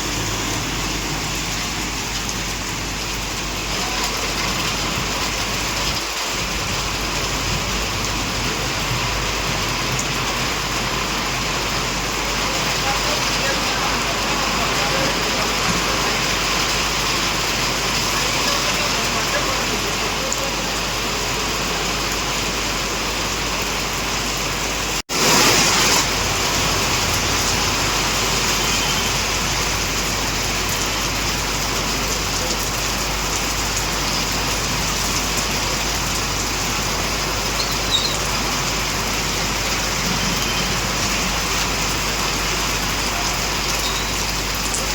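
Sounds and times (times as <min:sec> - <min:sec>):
heavy rain on street: 0:00.0 - 0:44.9
road traffic: 0:00.0 - 0:44.9.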